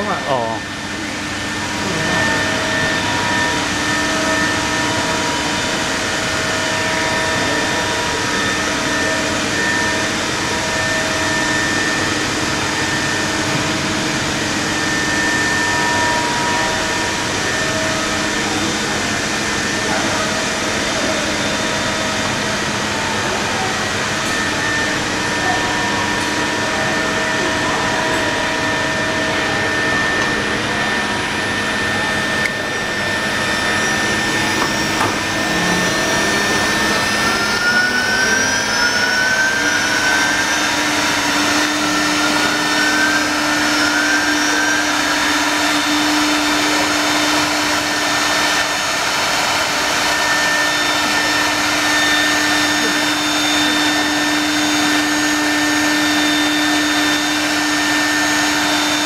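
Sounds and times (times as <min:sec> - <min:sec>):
router machine running: 0:00.0 - 0:59.0
short rising whines: 0:00.0 - 0:59.0
spindle motor whine: 0:00.0 - 0:59.0.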